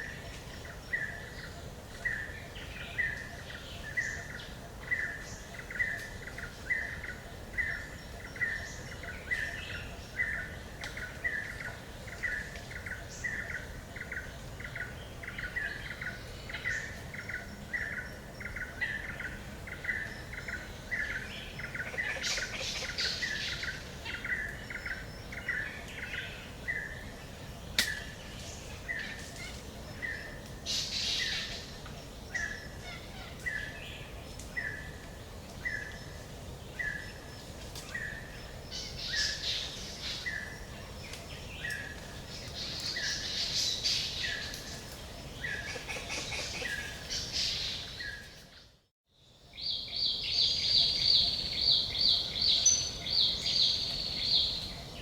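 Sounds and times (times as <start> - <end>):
birds chirping: 0.0 - 48.8.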